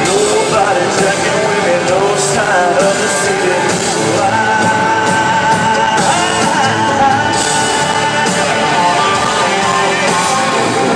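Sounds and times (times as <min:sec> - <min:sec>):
live rock band playing: 0:00.0 - 0:10.9.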